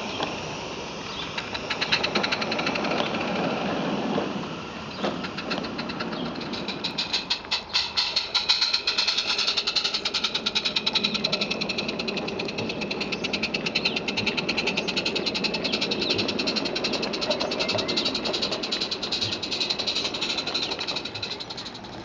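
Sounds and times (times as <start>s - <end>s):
steam locomotive exhaust beat: 0.0s - 22.0s
wheels rumbling on rails: 0.0s - 22.0s.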